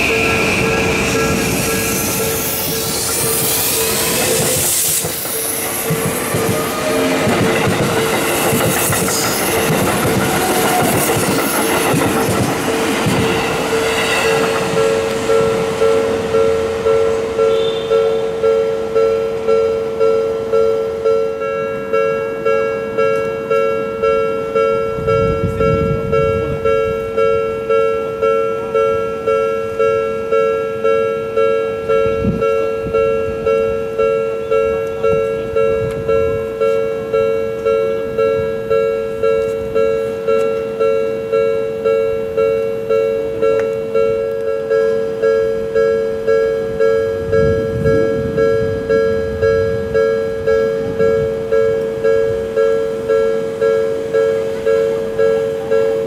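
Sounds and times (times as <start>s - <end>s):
level-crossing warning bell: 0.0s - 56.0s
low train rumble: 0.0s - 56.0s.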